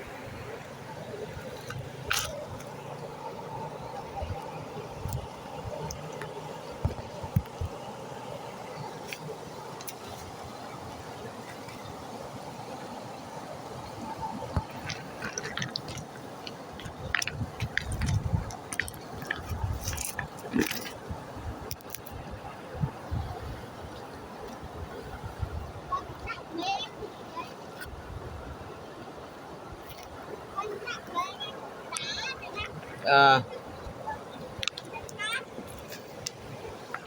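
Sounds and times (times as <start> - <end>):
stream water running: 0.0 - 37.0.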